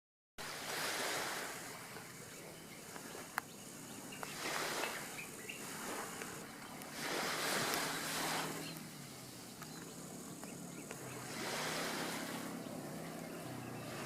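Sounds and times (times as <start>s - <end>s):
outdoor background noise: 0.4s - 14.0s.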